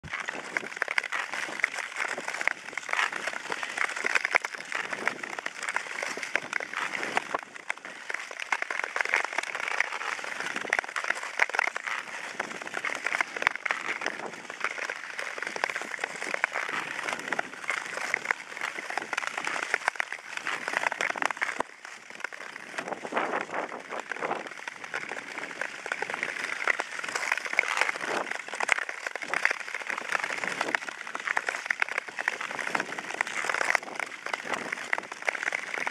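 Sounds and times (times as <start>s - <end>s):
ice skates scraping on ice: 0.0s - 35.9s.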